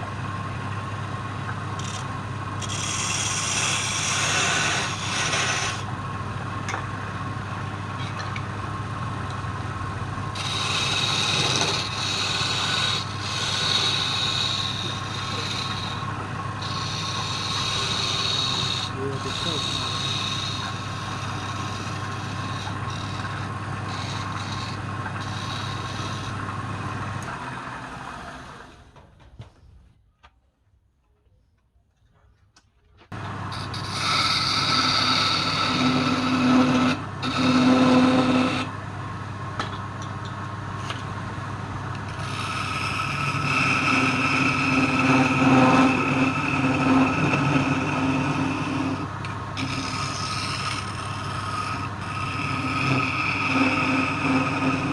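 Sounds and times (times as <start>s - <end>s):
lathe motor hum: 0.0s - 28.9s, 33.1s - 54.9s
tool cutting spinning wood: 1.2s - 29.0s, 33.1s - 40.0s, 40.6s - 54.9s.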